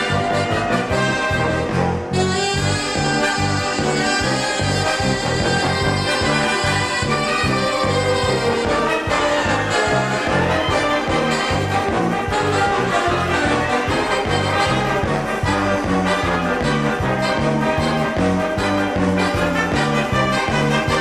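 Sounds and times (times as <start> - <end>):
pulsing bass line: 0.0 - 21.0
trumpets and trombones: 0.0 - 21.0
wind band playing lively piece: 0.0 - 21.0.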